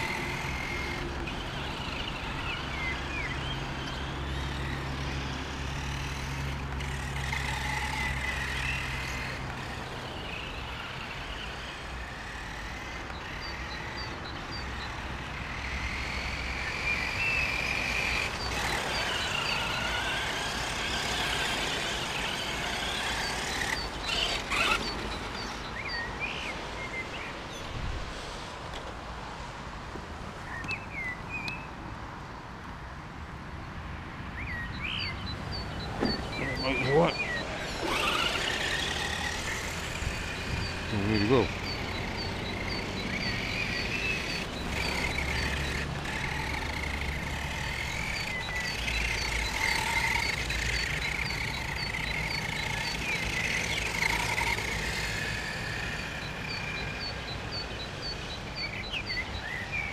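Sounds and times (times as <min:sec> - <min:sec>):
electric motor and gears whining: 0:00.0 - 0:27.4, 0:35.3 - 0:59.9.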